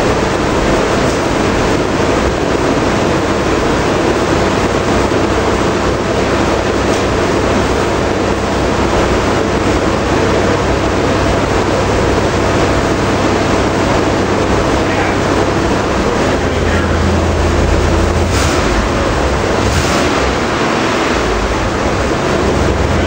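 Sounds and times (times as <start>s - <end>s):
pickup engine running steadily: 0.0s - 23.0s.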